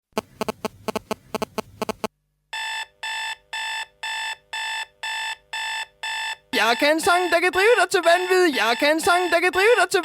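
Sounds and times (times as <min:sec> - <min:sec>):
electronic alarm beeping: 0:00.2 - 0:09.7.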